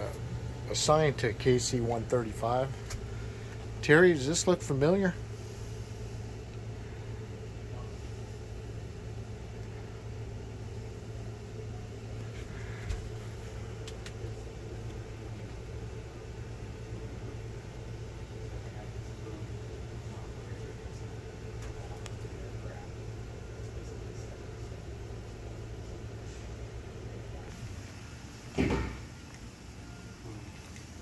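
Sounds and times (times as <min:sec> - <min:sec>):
low indoor hum: 0:00.0 - 0:31.0.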